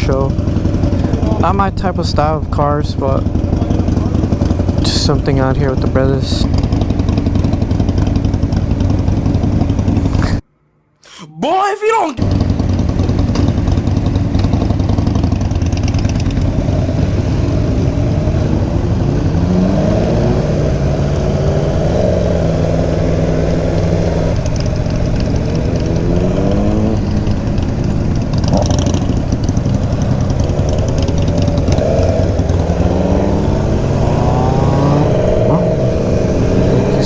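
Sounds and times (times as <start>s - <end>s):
low rumble: 0.0s - 10.4s, 12.2s - 37.0s
motorcycle engine accelerating: 0.0s - 10.4s, 12.2s - 37.0s.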